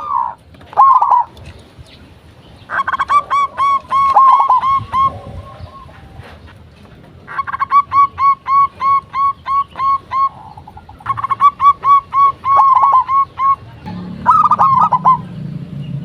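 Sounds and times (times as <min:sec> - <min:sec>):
doves cooing: 0:00.0 - 0:15.8.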